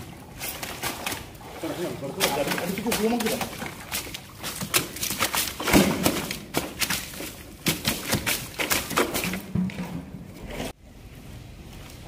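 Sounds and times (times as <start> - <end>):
fish flapping and slapping: 0.0 - 9.8
splashes: 0.0 - 9.9.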